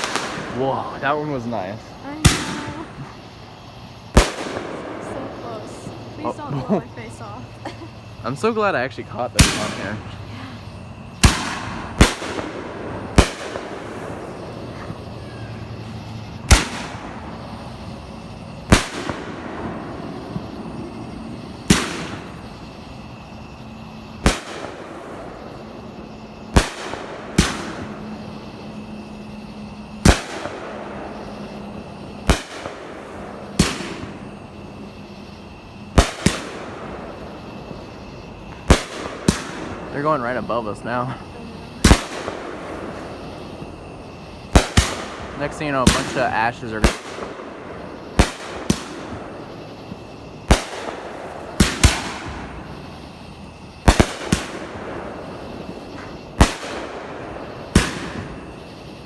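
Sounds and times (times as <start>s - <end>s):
fireworks bangs: 0.0s - 59.0s
fireworks crackle and rumble: 0.0s - 59.0s.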